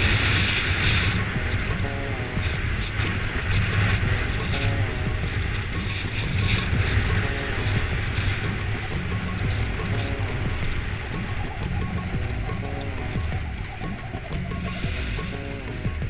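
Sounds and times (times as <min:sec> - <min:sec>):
motorcycle engine drone: 0:00.0 - 0:16.0
wind rush over microphone: 0:00.0 - 0:16.0.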